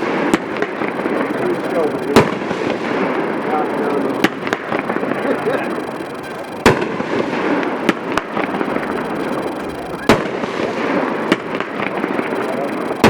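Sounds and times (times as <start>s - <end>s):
firework reports: 0.0s - 13.0s
noisy background: 0.0s - 13.0s.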